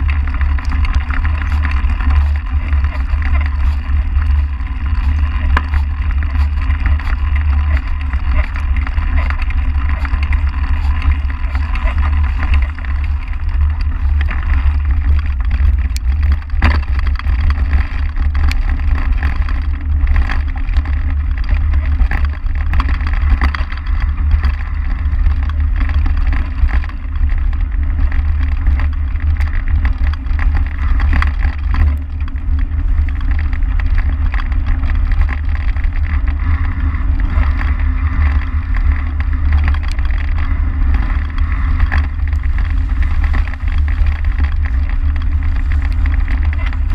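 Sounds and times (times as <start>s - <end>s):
bike clicks and rattles: 0.0s - 46.9s
wind rumble on microphone: 0.0s - 46.9s.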